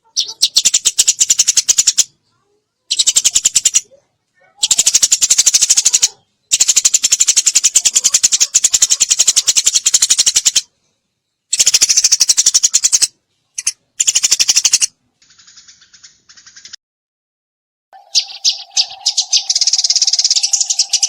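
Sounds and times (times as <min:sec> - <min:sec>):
sparrow chirping rapidly: 0:00.0 - 0:10.7, 0:11.5 - 0:16.8, 0:18.0 - 0:21.0.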